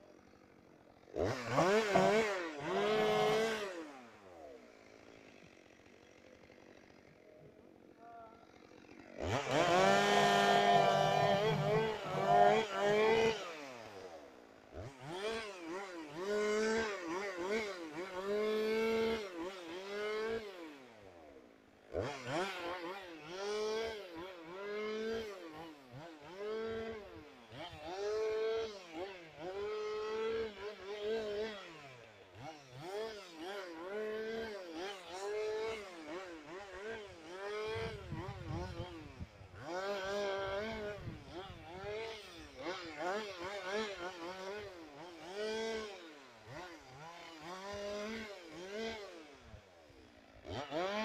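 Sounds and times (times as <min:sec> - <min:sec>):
chainsaw engine revving: 0:00.0 - 0:51.0.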